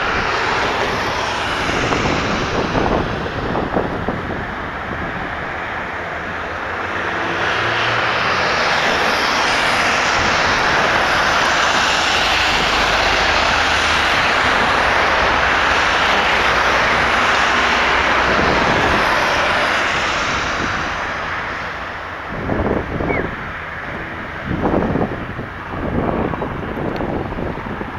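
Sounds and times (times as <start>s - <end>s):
aircraft engines passing: 0.0s - 27.9s.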